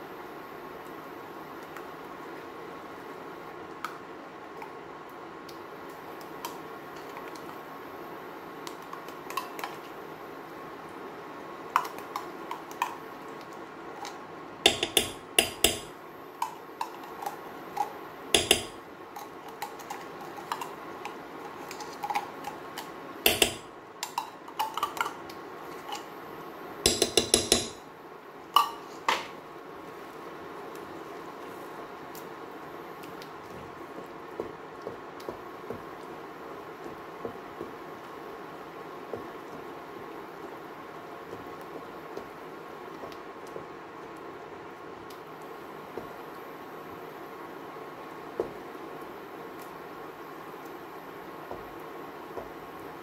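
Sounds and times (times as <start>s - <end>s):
steady low hiss: 0.0s - 53.0s.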